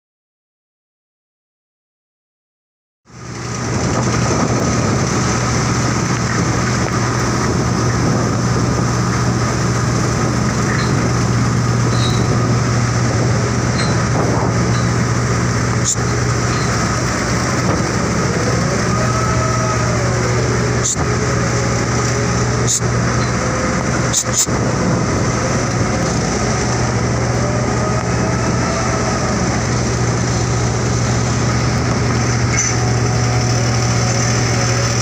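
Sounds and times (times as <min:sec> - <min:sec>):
ship and crane machinery drone: 0:03.1 - 0:35.0.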